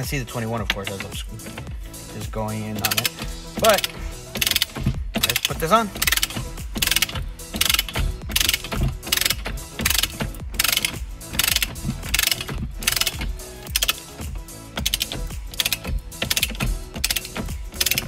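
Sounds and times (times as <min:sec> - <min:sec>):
ratchet wrench clicking: 0:02.7 - 0:18.0.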